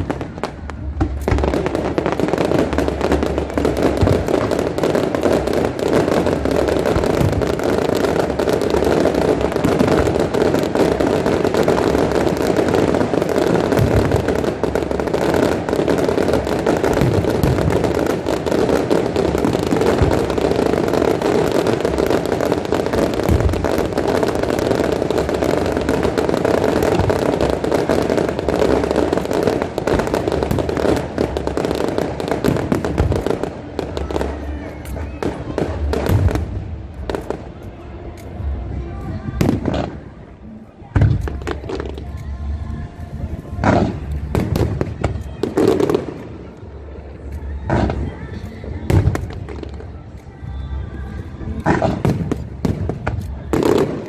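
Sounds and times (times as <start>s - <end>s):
fireworks crackling and banging: 0.0s - 54.0s.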